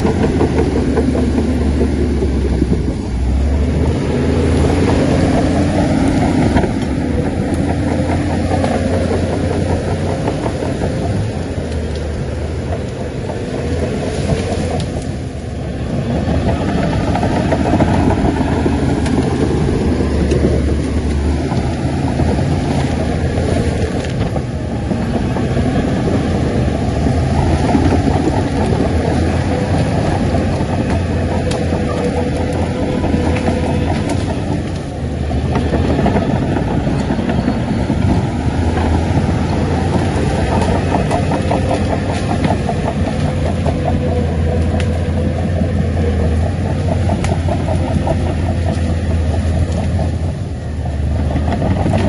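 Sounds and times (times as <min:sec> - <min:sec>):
bulldozer diesel engine under load: 0:00.0 - 0:52.0.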